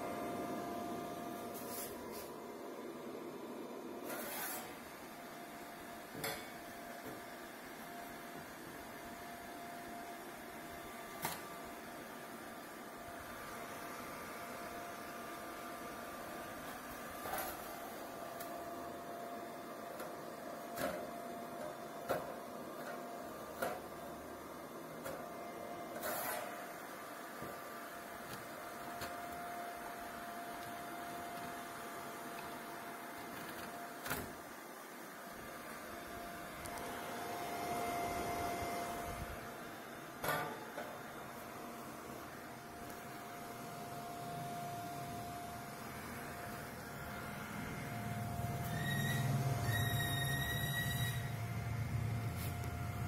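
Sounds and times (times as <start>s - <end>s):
cooling fan whirring: 4.6s - 53.0s.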